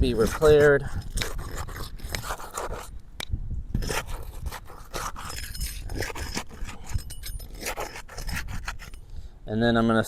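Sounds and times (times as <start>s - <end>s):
roof snake scraping shingles: 0.0s - 2.9s, 3.8s - 9.0s.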